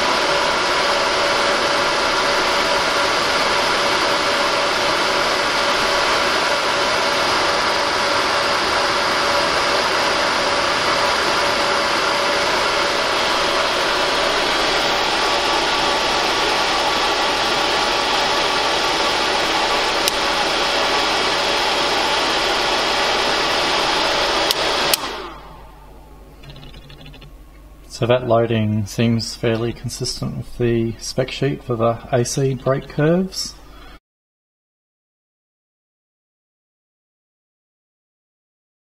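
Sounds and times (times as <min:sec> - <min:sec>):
cooling fan rushing: 0:00.0 - 0:34.0.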